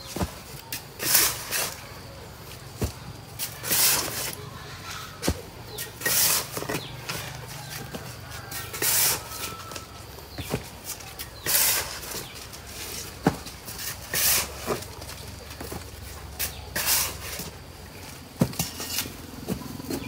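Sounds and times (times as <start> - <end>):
digging tool scraping soil: 0.0 - 15.4, 16.1 - 17.7, 18.4 - 20.0.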